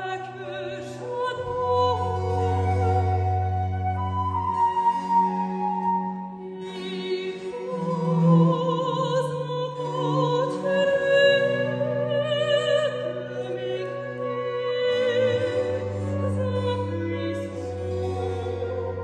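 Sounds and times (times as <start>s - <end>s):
soprano singing with vibrato: 0.0s - 4.2s, 6.4s - 19.0s
cello bass notes: 0.0s - 19.0s
wooden flute: 0.0s - 19.0s.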